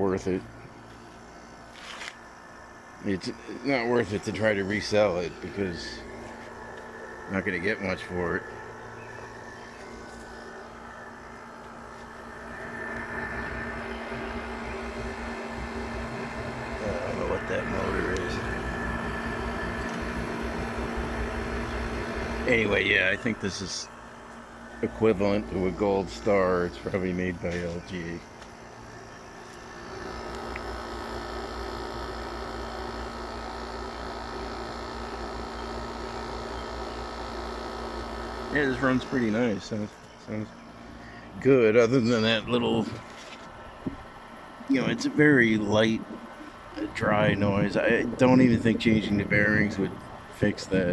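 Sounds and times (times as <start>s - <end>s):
air conditioner humming: 0.0s - 50.9s
dry fan noise: 0.0s - 50.9s.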